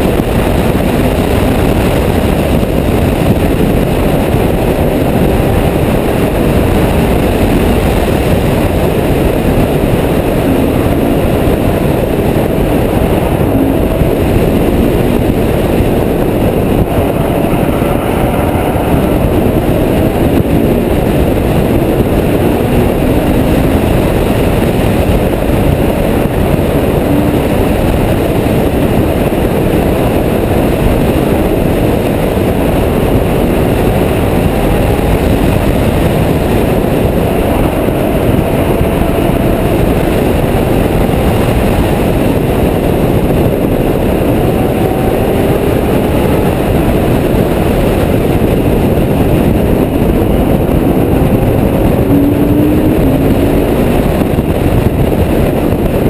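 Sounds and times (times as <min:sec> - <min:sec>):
car engine revving through gears: 0:00.0 - 0:56.0
wind and road noise: 0:00.0 - 0:56.0.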